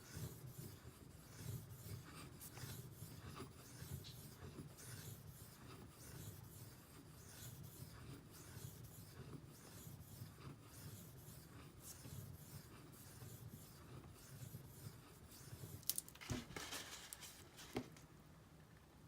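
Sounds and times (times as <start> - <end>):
blade scraping on whetstone: 0.0 - 16.0.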